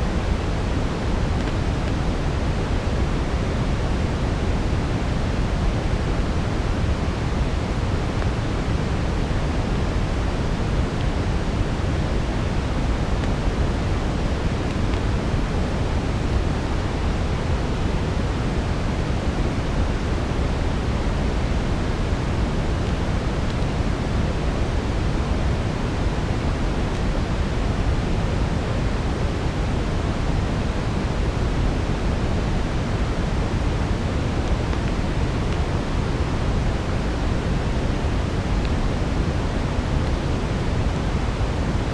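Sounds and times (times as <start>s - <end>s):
brown noise: 0.0s - 41.9s.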